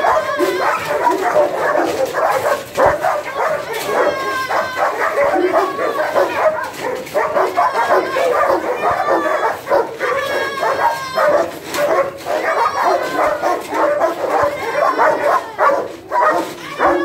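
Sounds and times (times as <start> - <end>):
dogs whining yelping and barking: 0.0 - 17.0.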